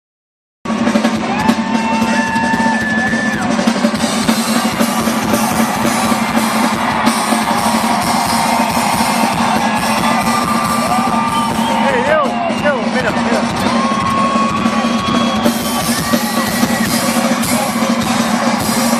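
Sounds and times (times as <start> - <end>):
drum kit: 0.7 - 18.9
rock band playing live: 0.7 - 18.9.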